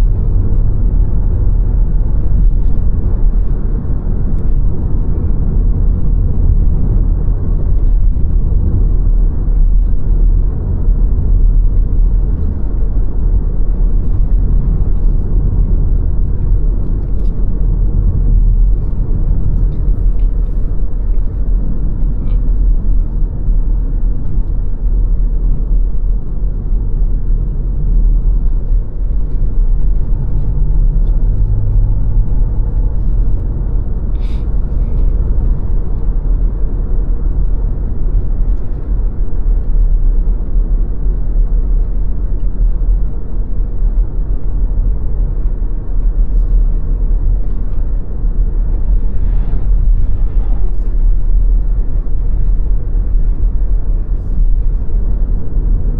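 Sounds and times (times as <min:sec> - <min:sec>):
faint engine hum: 0:00.0 - 0:55.9
tyre and wind rumble: 0:00.0 - 0:55.9.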